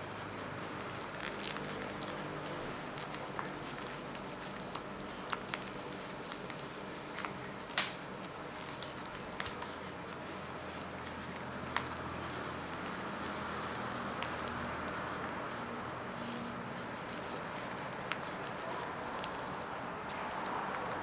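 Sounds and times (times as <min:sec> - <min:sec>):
paper rustling and crinkling: 0:00.0 - 0:21.0.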